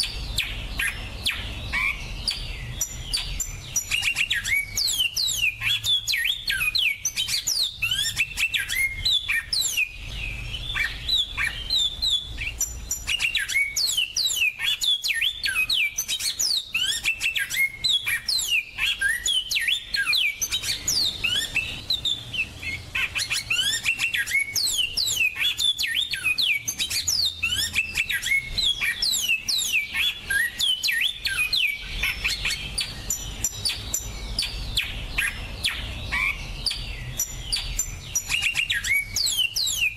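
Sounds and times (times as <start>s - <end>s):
finch song: 0.0s - 39.9s.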